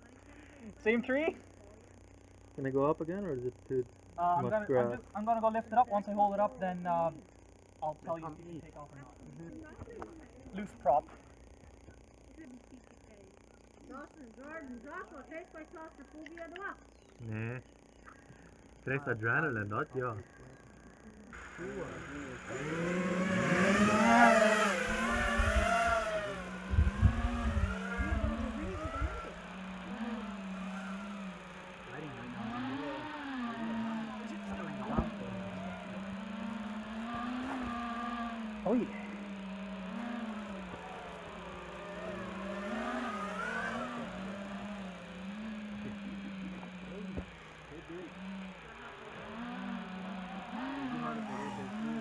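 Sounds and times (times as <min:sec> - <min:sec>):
quadcopter motors whining: 0:00.0 - 0:52.0.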